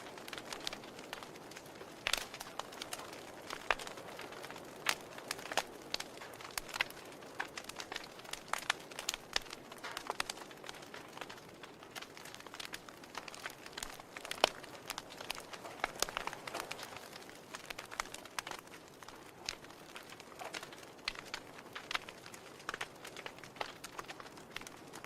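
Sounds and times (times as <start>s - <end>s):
log fire crackling: 0.0s - 25.0s.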